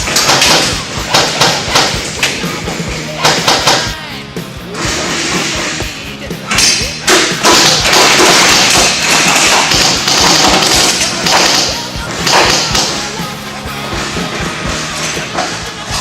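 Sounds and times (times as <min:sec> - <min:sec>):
pounding drum hits: 0:00.0 - 0:13.1
heavy rock music: 0:00.0 - 0:16.0.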